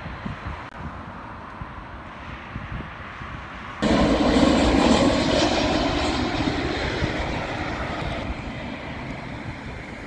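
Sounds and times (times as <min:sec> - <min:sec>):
jet airliner engine noise: 0:00.0 - 0:10.0.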